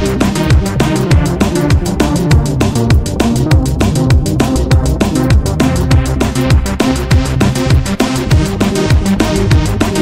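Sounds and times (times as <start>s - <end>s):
drum and bass electronic music: 0.0s - 10.0s.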